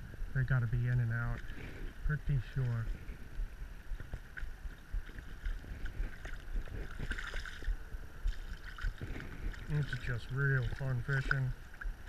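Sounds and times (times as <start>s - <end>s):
wind rumble on microphone: 0.0s - 12.0s
fish thrashing and splashing water: 0.7s - 12.0s.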